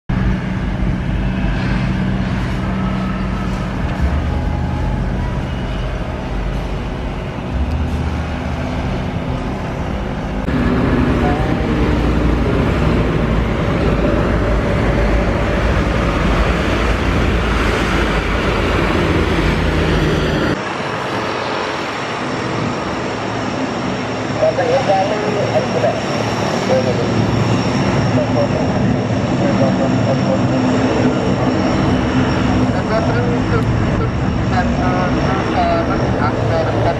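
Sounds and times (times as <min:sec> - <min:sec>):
high engine whine: 0:00.1 - 0:36.9
highway traffic passing: 0:00.1 - 0:36.9
turboprop aircraft taxiing: 0:00.1 - 0:36.9.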